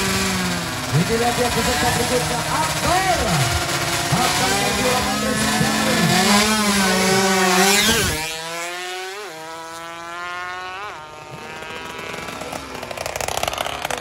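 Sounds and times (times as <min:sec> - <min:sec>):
motorcycle revving and accelerating: 0:00.0 - 0:14.0.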